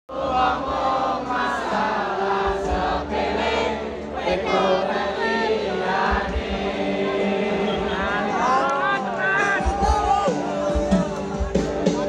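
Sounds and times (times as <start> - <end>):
crowd singing in unison: 0.1 - 12.0
band music: 0.7 - 12.0.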